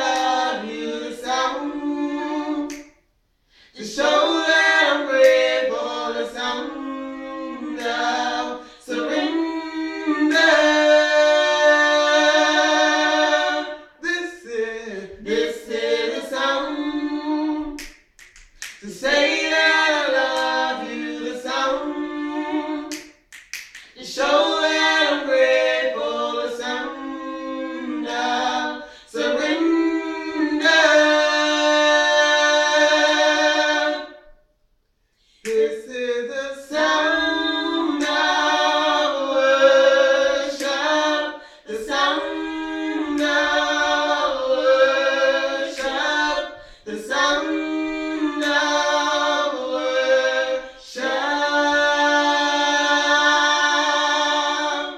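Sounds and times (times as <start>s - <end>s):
vocal group singing in harmony: 0.0s - 54.9s.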